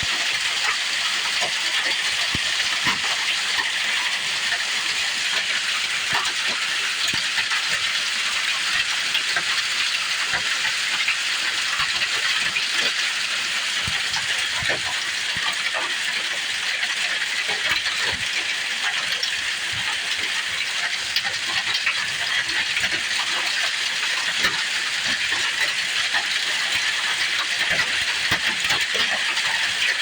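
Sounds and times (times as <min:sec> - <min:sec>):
hailstones ticking on a surface: 0:00.0 - 0:30.0.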